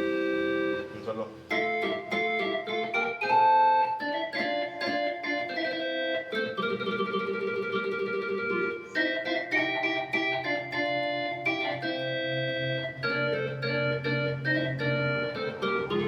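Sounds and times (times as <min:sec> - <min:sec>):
combo organ melodic solo: 0:00.0 - 0:16.0
held low organ note: 0:00.0 - 0:16.0.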